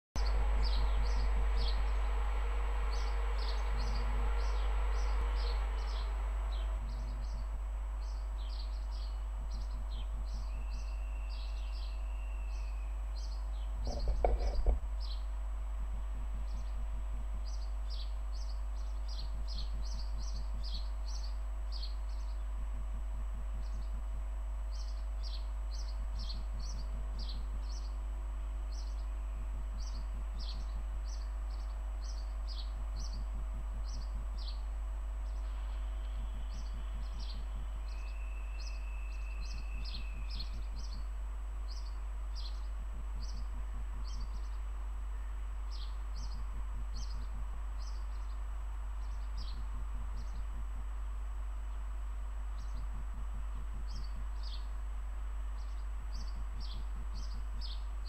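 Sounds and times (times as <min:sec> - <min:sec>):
small birds chirping: 0:00.2 - 0:02.1, 0:02.9 - 0:15.4, 0:16.0 - 0:58.0
low background hum: 0:00.2 - 0:58.0.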